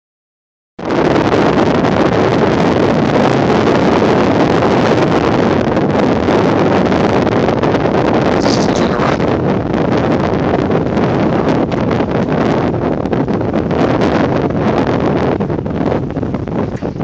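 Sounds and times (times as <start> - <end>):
wind buffeting microphone: 0.8 - 17.0.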